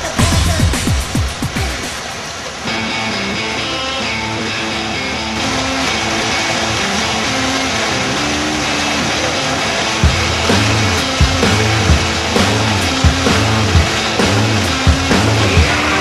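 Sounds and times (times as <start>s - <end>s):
rock music: 0.0s - 2.1s, 2.7s - 16.0s
guitar melody: 2.6s - 16.0s.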